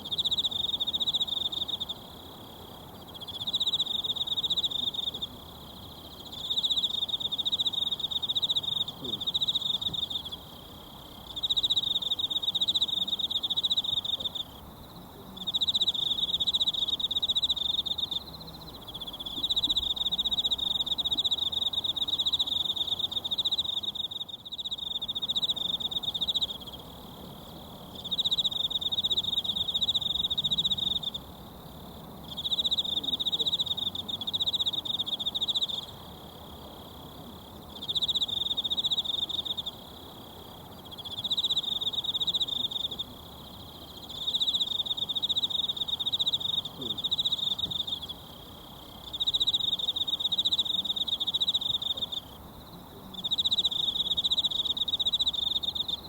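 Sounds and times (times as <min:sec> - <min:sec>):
insect trilling: 0:00.0 - 0:14.8, 0:15.4 - 0:56.0.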